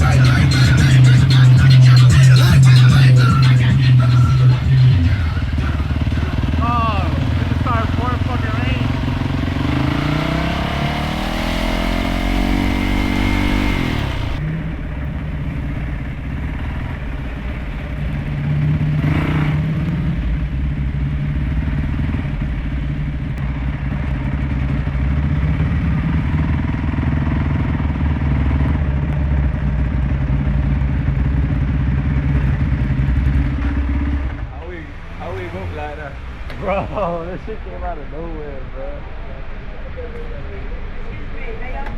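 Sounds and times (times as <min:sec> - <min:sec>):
motorcycle engine running: 0:00.0 - 0:34.7.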